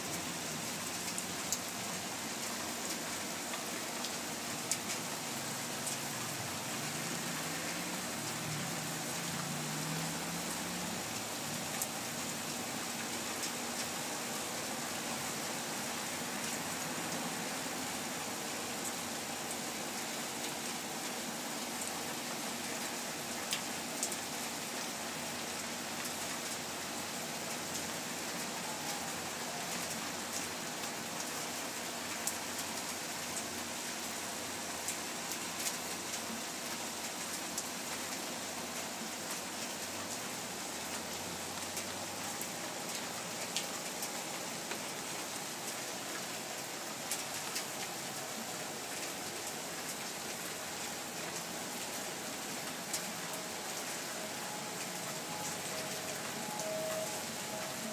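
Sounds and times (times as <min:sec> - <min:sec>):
rain on wet pavement: 0:00.0 - 0:57.9.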